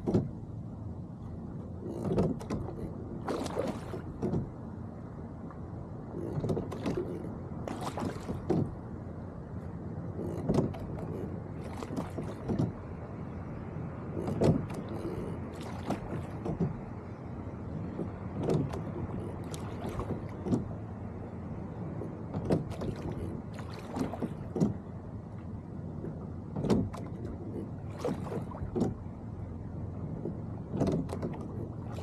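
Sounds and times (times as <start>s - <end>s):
oars knocking and splashing: 0.0s - 0.4s, 1.6s - 4.6s, 6.0s - 8.9s, 10.1s - 13.0s, 14.0s - 21.0s, 21.7s - 32.0s.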